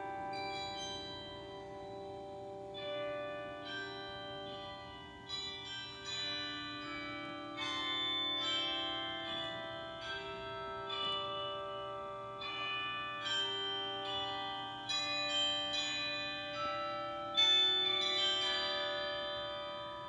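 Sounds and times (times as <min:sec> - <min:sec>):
slow bell-like instrumental music: 0:00.0 - 0:20.0.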